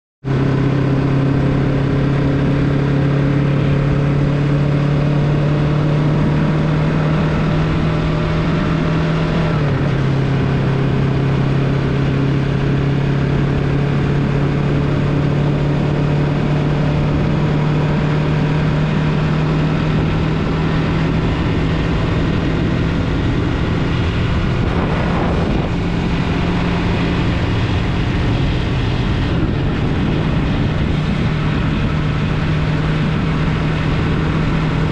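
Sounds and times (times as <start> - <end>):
motorcycle engine running: 0.3 - 34.9
wind noise: 0.3 - 34.9.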